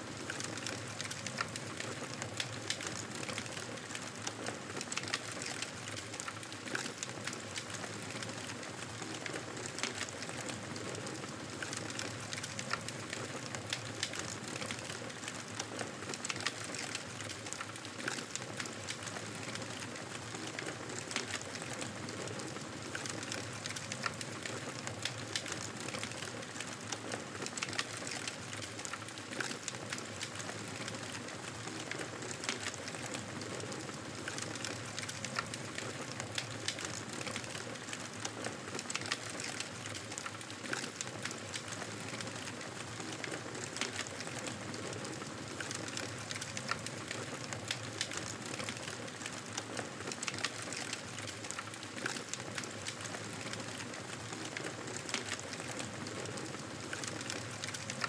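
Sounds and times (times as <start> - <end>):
campfire crackling and popping: 0.2 - 58.0.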